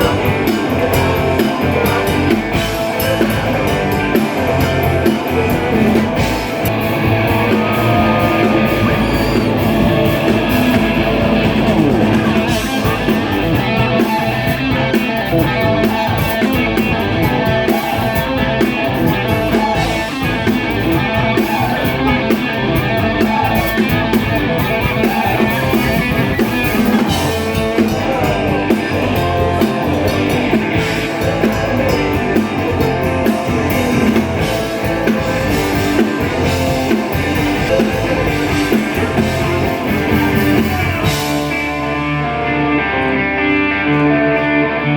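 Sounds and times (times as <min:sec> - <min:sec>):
rock music with electric guitar: 0:00.0 - 0:44.9.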